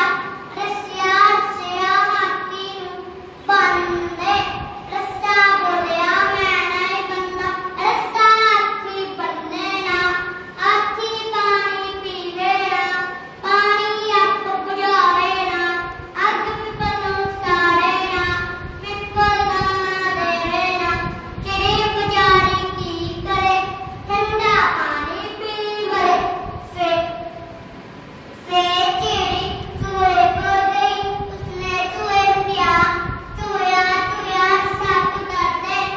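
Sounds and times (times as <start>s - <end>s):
child singing: 0.0s - 27.3s, 28.4s - 35.9s.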